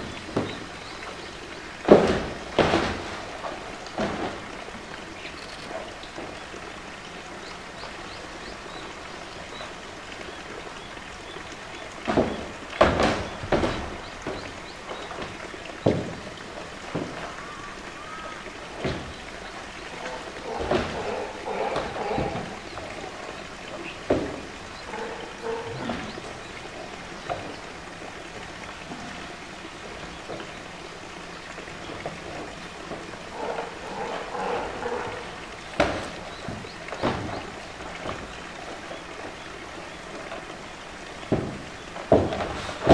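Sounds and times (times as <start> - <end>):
running water hiss: 0.0 - 42.9.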